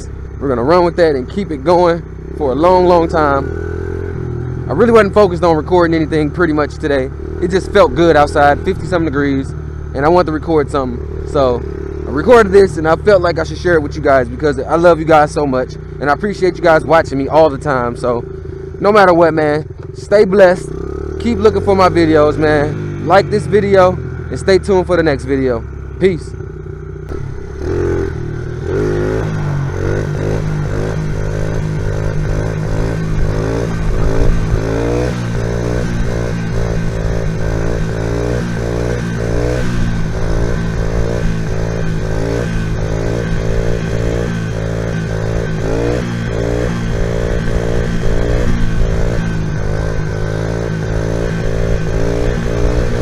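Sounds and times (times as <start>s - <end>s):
small motorbike engine running: 0.0s - 53.0s.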